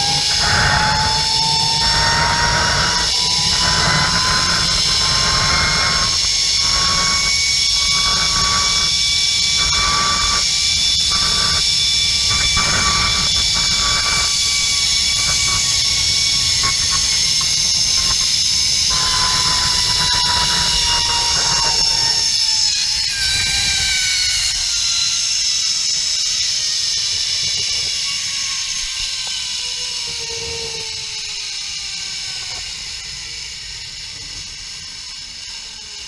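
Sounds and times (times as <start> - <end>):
pulley wheels whining on cable: 0.0 - 36.0.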